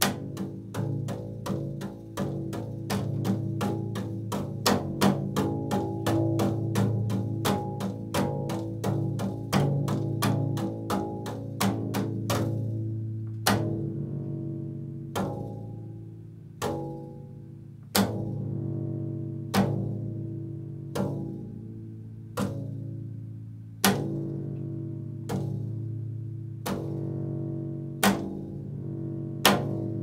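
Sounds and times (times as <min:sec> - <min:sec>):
double bass plucked notes: 0:00.0 - 0:30.0.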